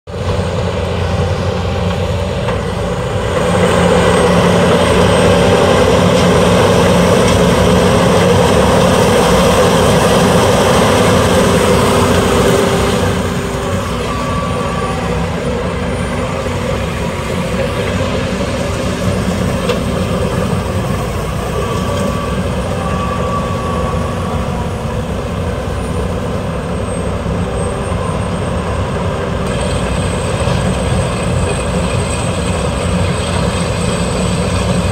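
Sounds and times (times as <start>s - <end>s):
heavy diesel drone: 0.0s - 34.9s.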